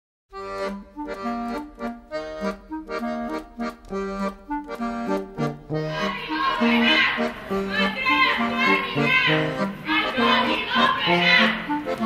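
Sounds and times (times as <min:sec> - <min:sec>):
reedy accordion-like melody: 0:00.3 - 0:12.0.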